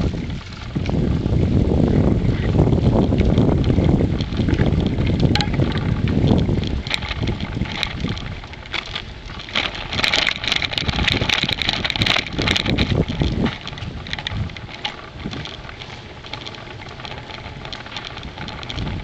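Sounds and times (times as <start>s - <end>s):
bicycle tyres rolling: 0.0s - 19.0s
bike rattling: 0.0s - 19.0s
wind buffeting microphone: 0.0s - 19.0s
scattered clicks: 2.9s - 19.0s.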